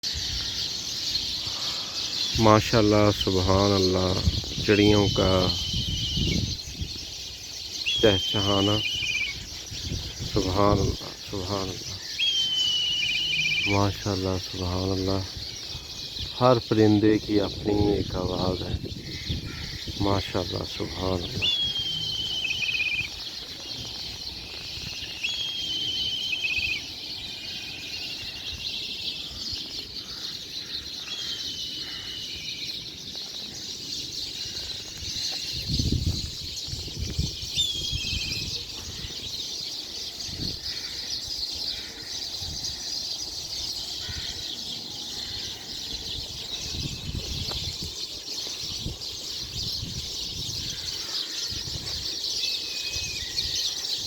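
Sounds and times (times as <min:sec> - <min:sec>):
birds chirping in chorus: 0:00.0 - 0:54.0.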